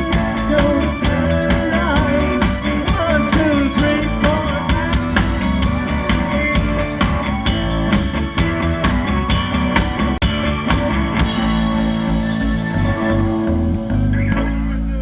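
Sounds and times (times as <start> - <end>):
drum kit beat: 0.0 - 14.7
band count-in: 0.0 - 15.0
bass guitar: 0.0 - 15.0
guitar: 0.0 - 15.0.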